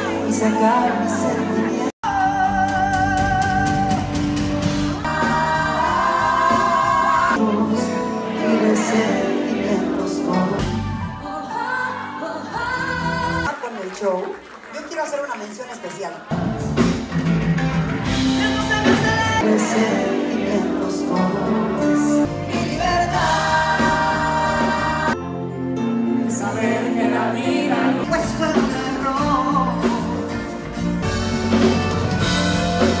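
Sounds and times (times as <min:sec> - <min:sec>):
loud amplified backing music: 0:00.0 - 0:13.5, 0:16.3 - 0:33.0
person singing pop song live: 0:00.0 - 0:13.6, 0:18.0 - 0:25.4, 0:26.3 - 0:33.0.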